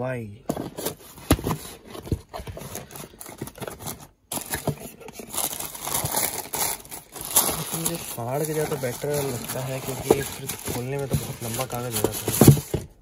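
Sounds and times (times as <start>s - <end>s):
cardboard box being handled: 0.5s - 13.0s
tissue paper crinkling and tearing: 0.7s - 12.8s.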